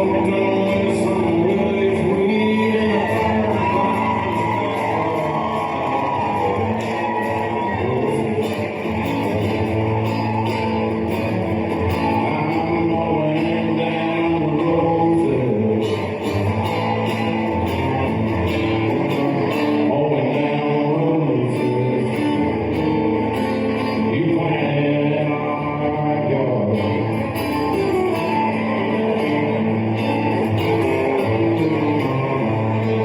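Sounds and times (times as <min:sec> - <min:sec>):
country band playing: 0:00.0 - 0:33.0
guitars: 0:00.0 - 0:33.0
person singing: 0:00.0 - 0:33.0.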